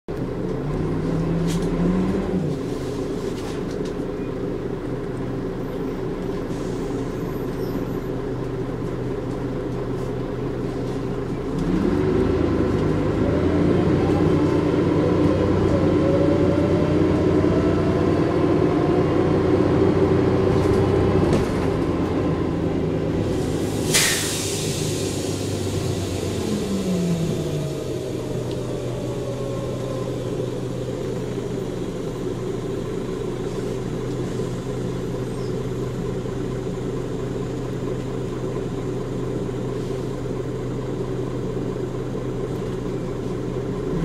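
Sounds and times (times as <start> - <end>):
bus diesel engine running: 0.1 - 44.0.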